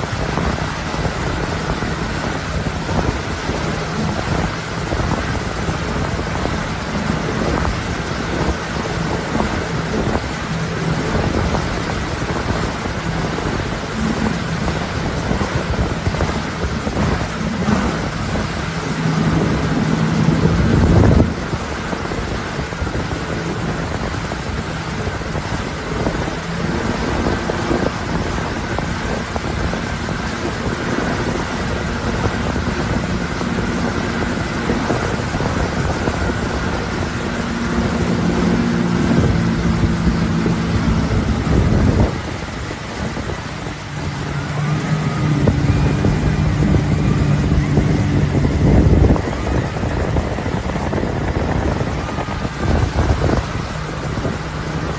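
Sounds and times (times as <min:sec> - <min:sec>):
boat engine humming: 0:00.0 - 0:54.9
hiss of churning wake: 0:00.0 - 0:54.9
wind buffeting microphone: 0:00.0 - 0:54.9.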